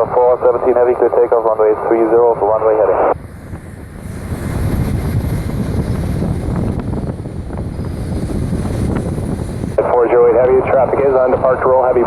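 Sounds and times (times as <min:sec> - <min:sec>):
jet engines low rumble: 0:00.0 - 0:12.0
wind buffeting microphone: 0:00.0 - 0:12.0.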